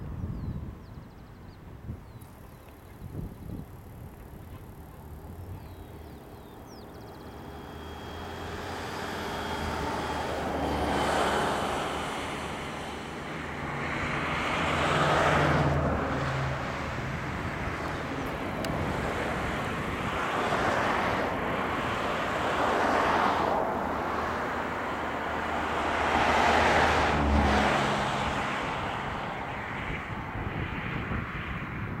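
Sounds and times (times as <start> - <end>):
low hum: 2.2 - 29.4
jet engines rushing: 2.2 - 32.0.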